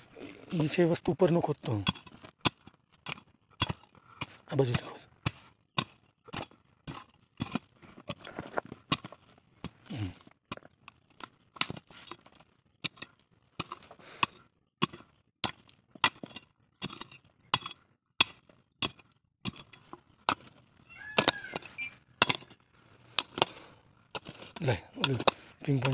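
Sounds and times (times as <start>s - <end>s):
hoe striking stony soil: 0.2s - 25.9s.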